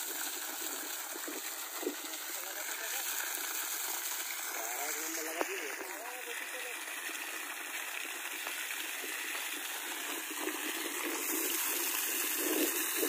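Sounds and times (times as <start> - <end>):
water gushing from pump discharge: 0.0 - 13.0.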